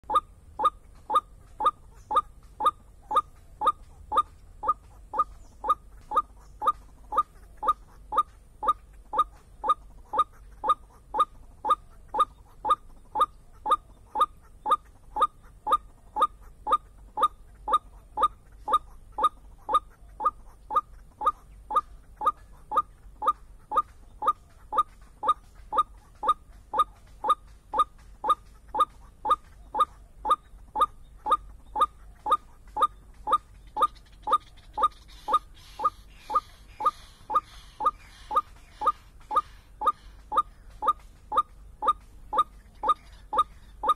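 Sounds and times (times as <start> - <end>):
bird calling short clipped notes: 0.1 - 43.9.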